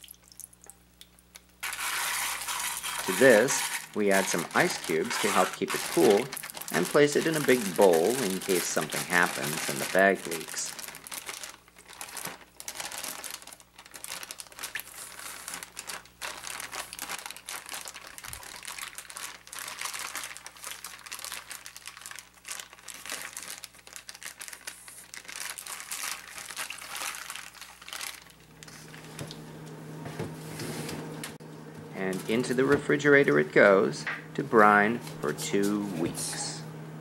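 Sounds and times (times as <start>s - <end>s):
low steady hum: 0.0s - 37.0s
plastic bag crinkling: 1.6s - 29.4s, 31.9s - 36.2s.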